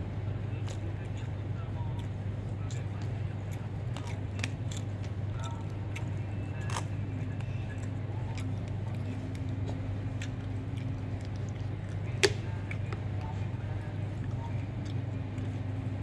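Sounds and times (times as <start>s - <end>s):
air conditioning hum: 0.0s - 16.0s.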